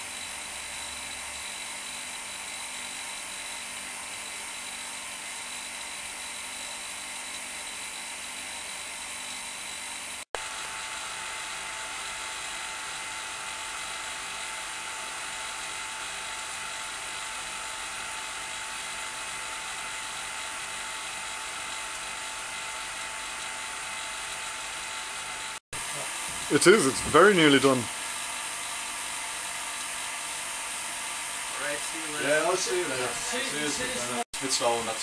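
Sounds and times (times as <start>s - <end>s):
vacuum pump whining: 0.0s - 35.0s.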